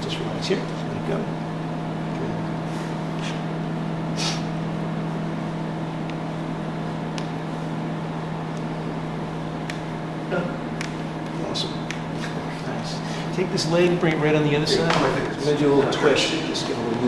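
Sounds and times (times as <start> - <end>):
mechanical motor hum: 0.0 - 17.0.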